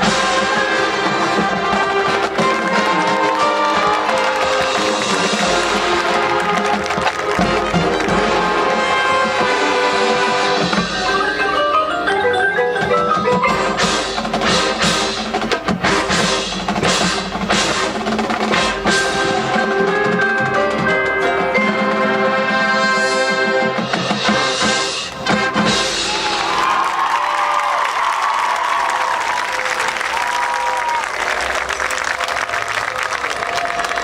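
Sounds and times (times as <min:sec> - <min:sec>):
marching band playing: 0:00.0 - 0:27.5.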